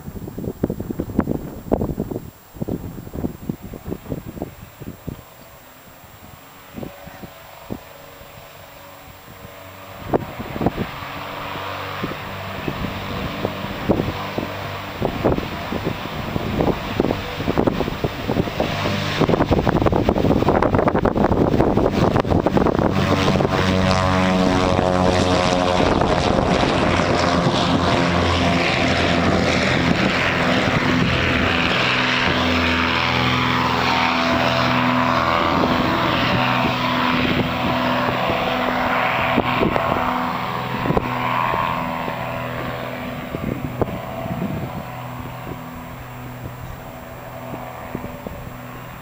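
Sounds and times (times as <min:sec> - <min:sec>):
propeller aircraft engine drone: 0:00.0 - 0:49.0.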